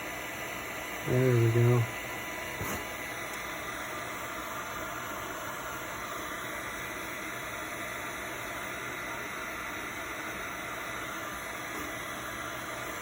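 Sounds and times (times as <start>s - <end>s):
heat gun blowing hot air: 0.0s - 13.0s.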